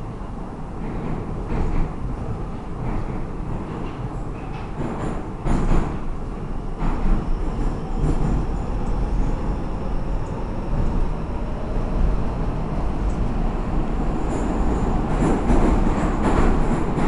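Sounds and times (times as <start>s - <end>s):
subway car wheels rumbling: 0.0s - 17.0s.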